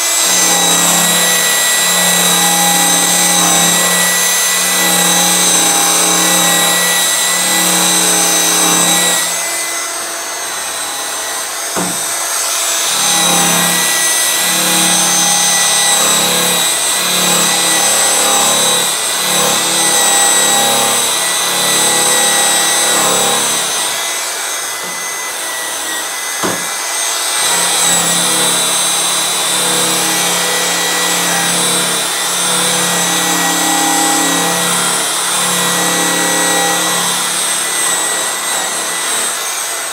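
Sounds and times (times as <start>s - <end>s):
electric polisher motor whine: 0.0s - 39.9s.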